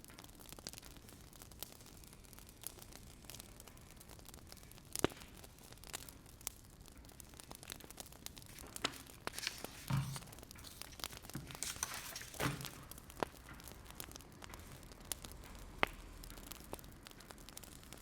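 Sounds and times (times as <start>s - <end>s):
wood fire crackling: 0.2s - 18.0s.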